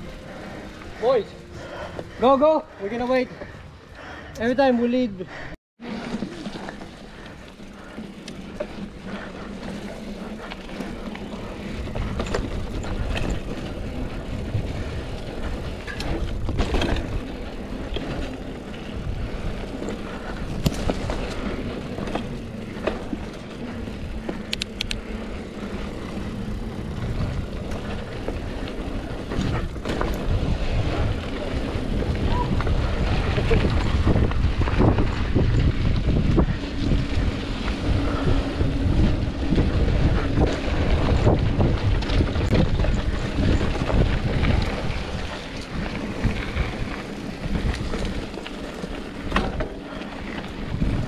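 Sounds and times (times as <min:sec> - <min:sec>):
bike tyre noise on dirt: 0:00.0 - 0:51.0
bike clicks and rattles: 0:05.8 - 0:51.0.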